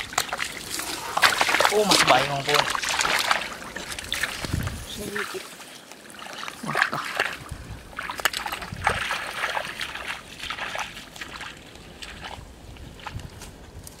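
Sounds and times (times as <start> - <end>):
footsteps wading through water: 0.0 - 14.0.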